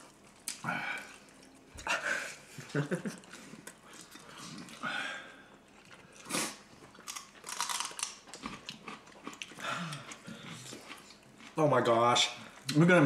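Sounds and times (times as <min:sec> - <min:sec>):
people chewing chicken wings: 0:00.0 - 0:12.9.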